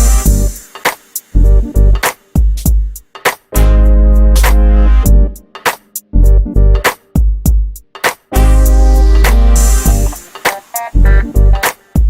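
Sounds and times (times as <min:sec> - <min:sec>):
beat-driven music with heavy bass: 0:00.0 - 0:12.0.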